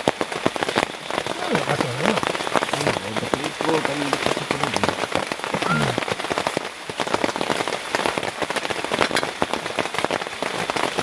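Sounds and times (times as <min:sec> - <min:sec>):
close raindrop hits: 0:00.0 - 0:11.0
heavy rain: 0:00.0 - 0:11.0.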